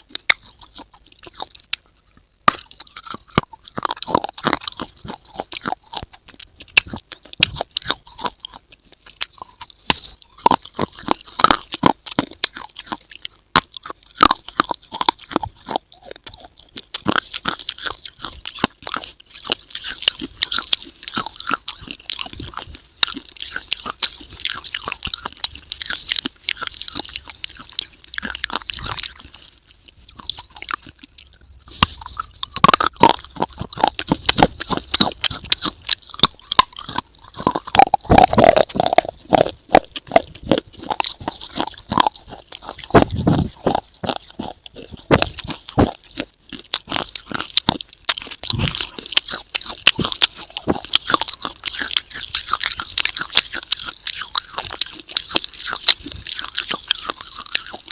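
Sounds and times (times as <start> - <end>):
crunchy chewing: 0.0 - 57.9.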